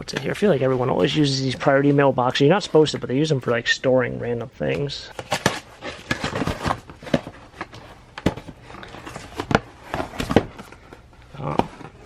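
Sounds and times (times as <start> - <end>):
cardboard rustling and scraping: 0.1 - 3.6, 5.1 - 12.0.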